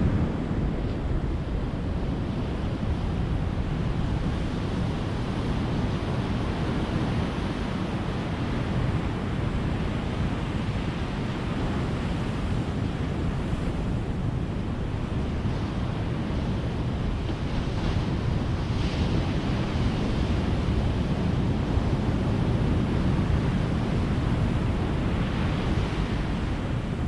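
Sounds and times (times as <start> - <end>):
ocean waves washing: 0.0 - 27.0.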